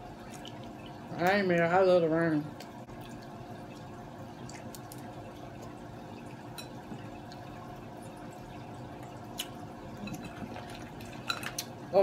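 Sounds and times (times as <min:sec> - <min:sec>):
running water trickle: 0:00.0 - 0:12.0.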